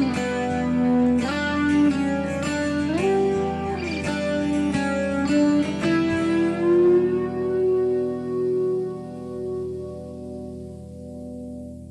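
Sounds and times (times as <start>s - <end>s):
plucked string instrument music: 0.0s - 11.9s.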